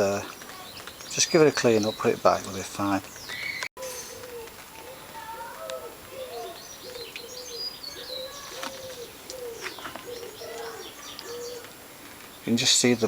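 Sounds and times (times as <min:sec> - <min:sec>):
bird chirps: 0:00.0 - 0:13.0
birds calling low notes: 0:00.0 - 0:13.0.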